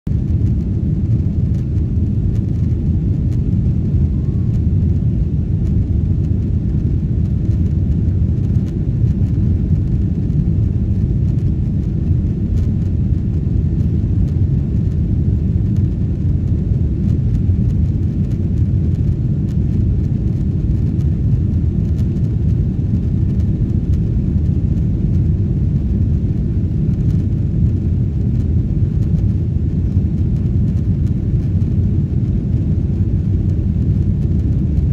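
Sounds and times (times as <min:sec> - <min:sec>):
aircraft cabin engine drone: 0:00.1 - 0:34.9.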